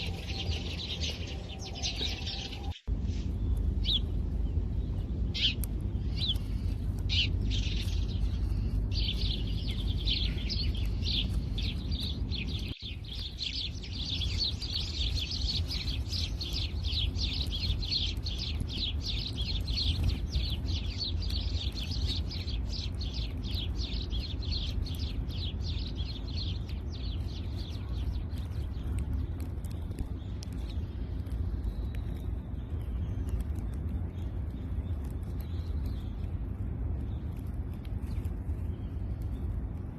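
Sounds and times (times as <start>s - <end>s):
sparrows chirping: 0.0s - 39.9s
steady low rumble: 0.0s - 39.9s.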